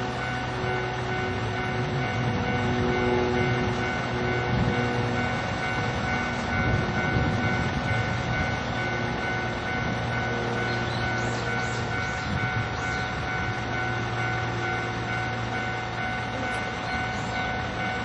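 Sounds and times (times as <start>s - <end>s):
electronic warning bell ringing: 0.0s - 18.0s.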